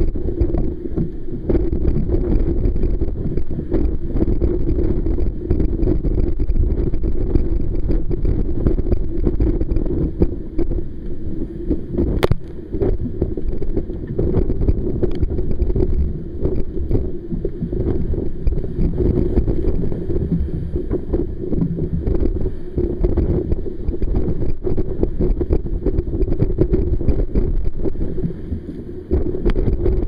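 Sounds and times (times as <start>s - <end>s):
water rushing along hull: 0.0s - 30.0s
waves slapping against boat: 0.0s - 30.0s
wind buffeting microphone: 0.0s - 30.0s.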